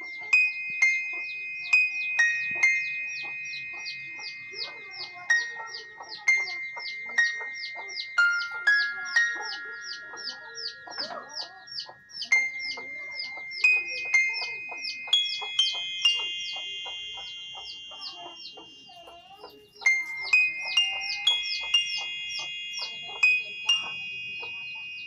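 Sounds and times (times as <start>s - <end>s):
synthesized slow melody: 0.0s - 25.0s.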